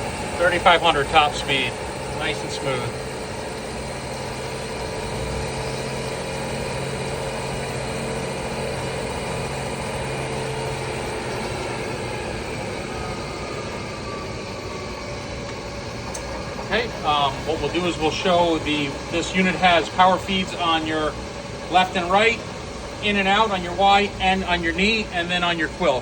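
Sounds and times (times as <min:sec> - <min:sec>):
milling machine spindle hum: 0:00.0 - 0:26.0.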